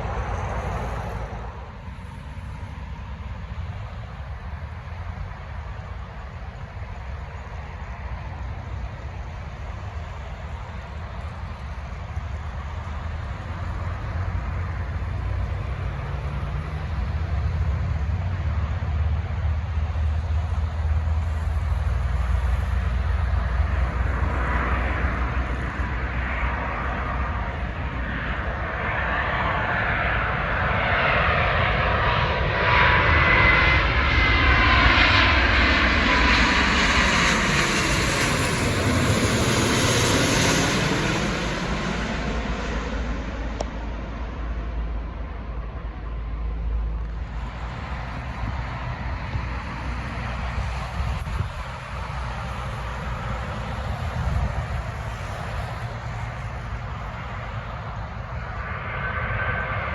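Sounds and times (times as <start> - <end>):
high jet engine whine: 0.0 - 59.9
jet airliner flying past: 0.0 - 59.9.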